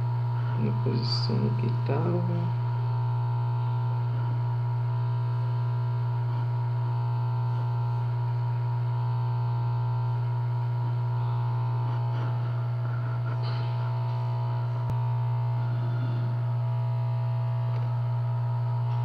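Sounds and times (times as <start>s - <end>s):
loud electrical hum: 0.0s - 19.0s.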